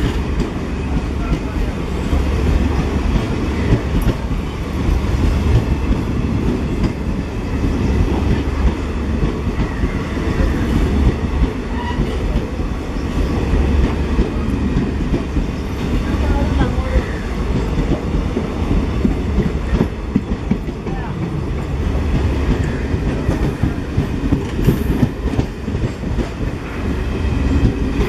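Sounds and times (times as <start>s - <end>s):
train wheels rumbling and rattling: 0.0s - 28.0s.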